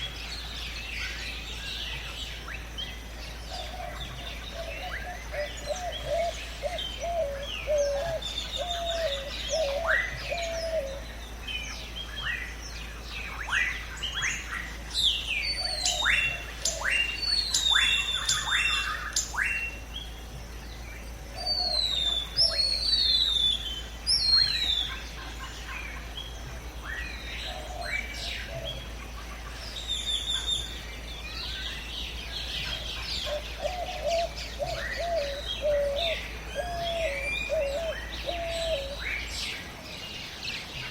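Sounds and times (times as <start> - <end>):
birds chirping and whistling: 0.0 - 40.9
low repeated bird call: 0.0 - 40.9.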